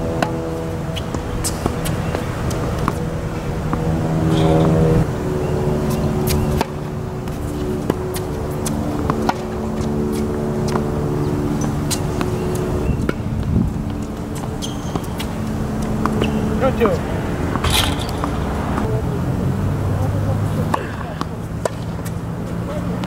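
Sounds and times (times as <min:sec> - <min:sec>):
humming drone: 0:00.0 - 0:23.0.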